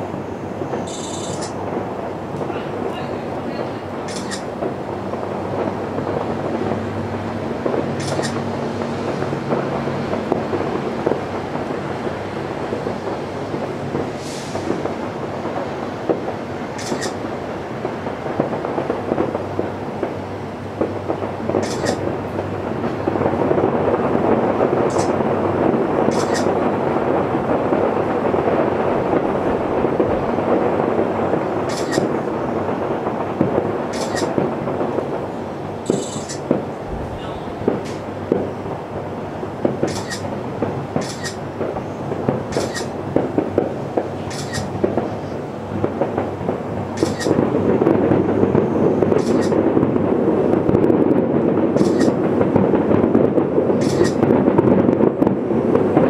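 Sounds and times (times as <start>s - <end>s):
fireworks barrage crackling: 0.0s - 56.0s.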